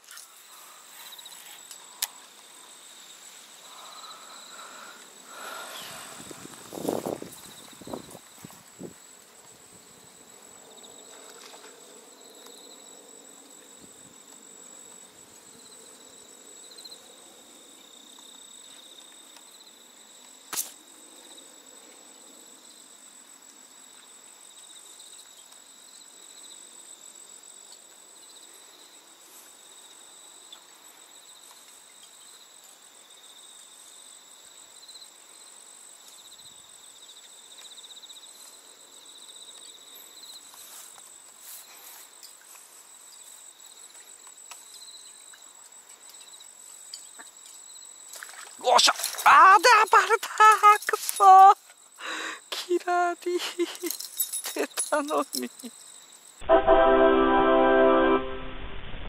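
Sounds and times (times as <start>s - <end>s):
insects chirring: 0.0s - 56.4s.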